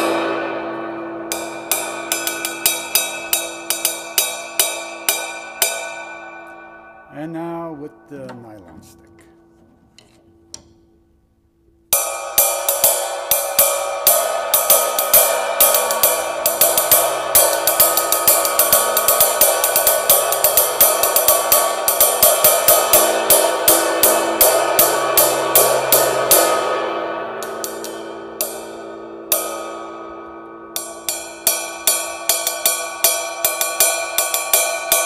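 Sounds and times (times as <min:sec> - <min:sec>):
ride cymbal struck with stick: 0:00.0 - 0:08.5, 0:11.9 - 0:35.0.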